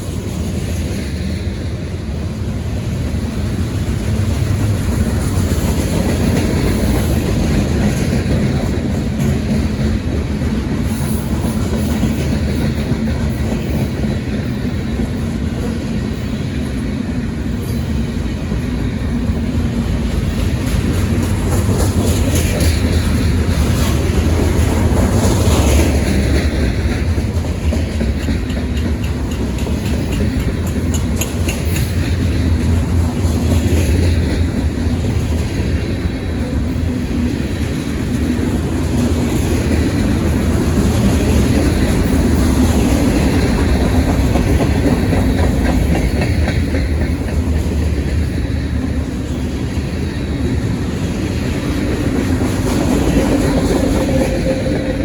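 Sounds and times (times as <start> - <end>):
freight train rumbling past: 0.0 - 55.0
wheels clacking over rail joints: 2.2 - 55.0.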